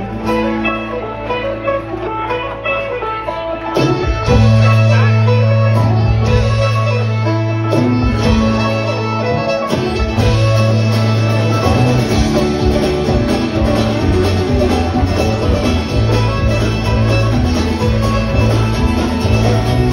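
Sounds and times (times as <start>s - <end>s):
drums: 0.0s - 19.9s
fiddle: 0.0s - 19.9s
strummed guitars: 0.0s - 19.9s.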